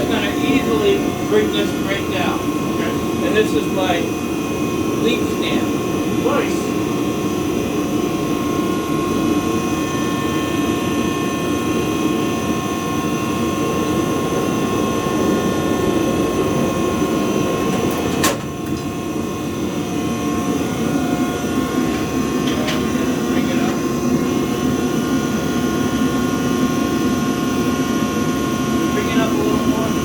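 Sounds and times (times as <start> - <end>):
constant whine: 0.0 - 30.0
gas burner roaring: 0.0 - 30.0.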